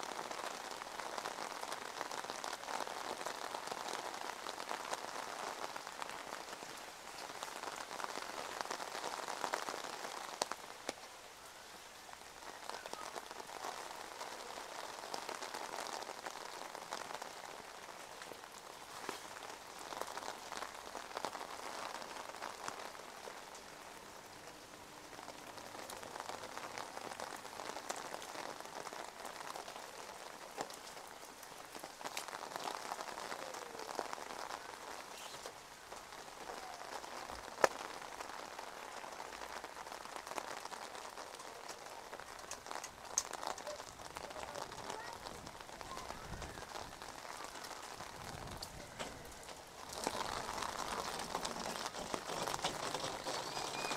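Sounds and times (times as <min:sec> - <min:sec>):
rain on wet pavement: 0:00.0 - 0:53.9
rain pattering on umbrella: 0:00.0 - 0:53.9.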